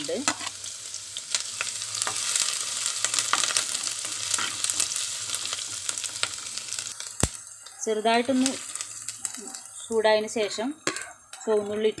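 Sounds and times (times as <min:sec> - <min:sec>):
ginger and garlic sizzling in oil: 0:00.0 - 0:12.0.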